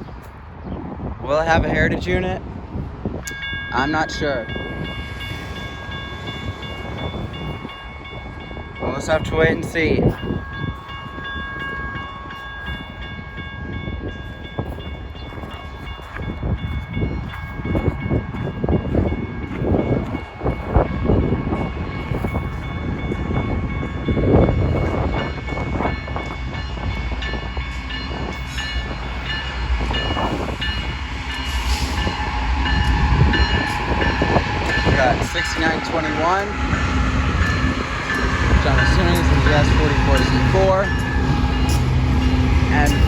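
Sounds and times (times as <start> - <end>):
diesel freight train rumbling: 0.0 - 43.0
crossing warning bell ringing: 1.9 - 43.0.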